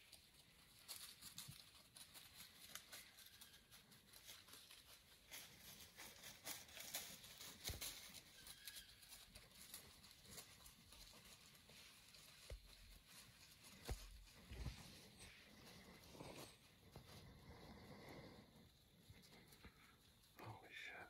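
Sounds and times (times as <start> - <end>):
dry leaves rustling: 0.0 - 21.0.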